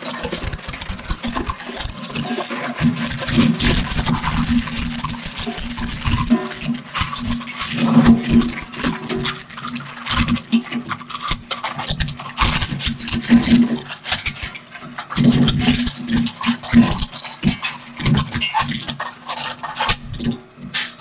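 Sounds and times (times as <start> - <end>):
machine drive humming: 0.0 - 21.0
shredder cracking hard plastic: 0.0 - 21.0.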